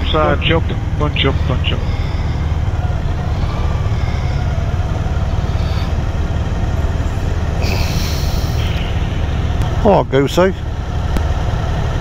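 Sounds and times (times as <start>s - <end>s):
motorcycle engine rumble: 0.0s - 12.0s
wind: 0.0s - 12.0s.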